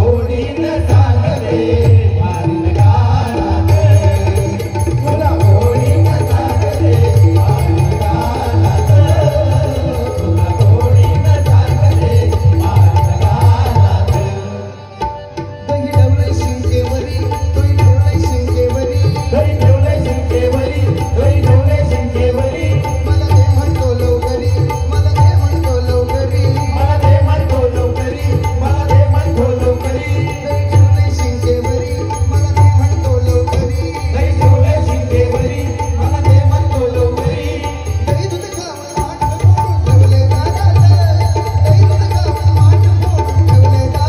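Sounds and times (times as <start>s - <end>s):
harmonium melody: 0.0s - 44.0s
pakhavaj and tabla drumming: 0.0s - 44.0s.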